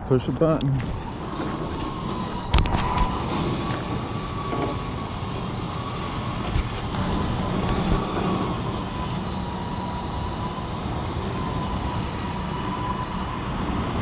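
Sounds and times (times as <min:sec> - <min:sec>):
electric winch whining: 0:00.0 - 0:14.0
low mechanical rumble: 0:00.0 - 0:14.0.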